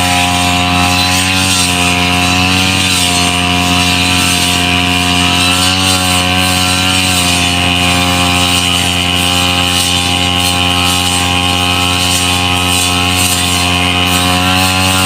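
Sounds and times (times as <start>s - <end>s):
brush cutter engine running: 0.0s - 15.0s.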